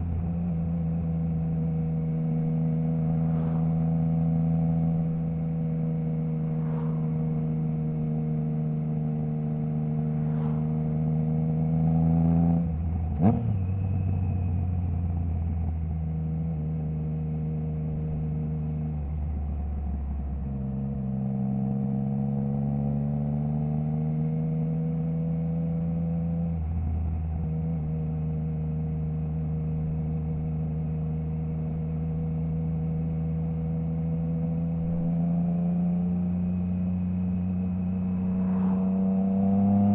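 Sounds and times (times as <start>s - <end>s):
motorcycle engine running: 0.0s - 22.7s, 25.0s - 39.9s.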